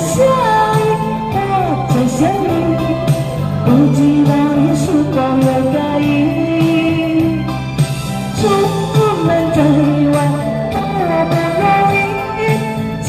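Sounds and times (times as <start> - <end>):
backing music: 0.0 - 13.0
woman singing a pop ballad: 0.0 - 13.0.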